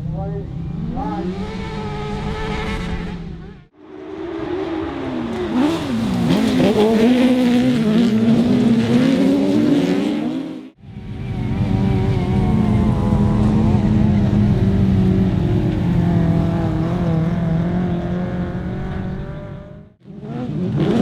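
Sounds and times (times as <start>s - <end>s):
engines holding steady pitch: 0.0s - 21.0s
race car engines running hard: 0.0s - 21.0s.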